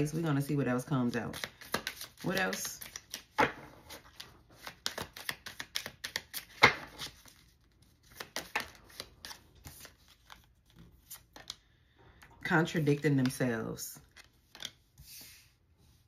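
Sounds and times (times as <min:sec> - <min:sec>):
cards being shuffled: 0:01.2 - 0:11.7, 0:12.9 - 0:15.5.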